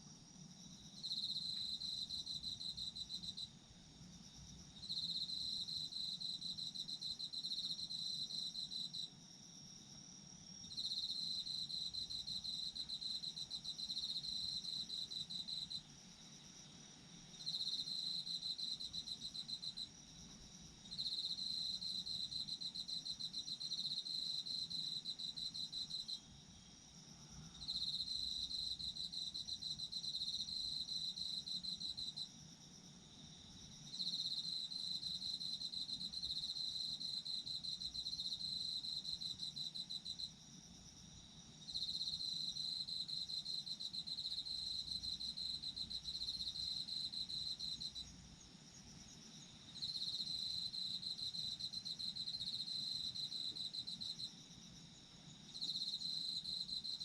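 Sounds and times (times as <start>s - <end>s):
faint steady insect trill: 0.0s - 57.0s.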